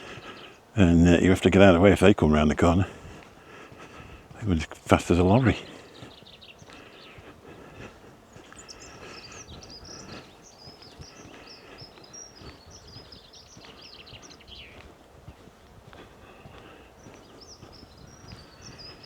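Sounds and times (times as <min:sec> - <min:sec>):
birds chirping and trilling: 0:00.0 - 0:19.0
faint outdoor background: 0:00.0 - 0:19.0.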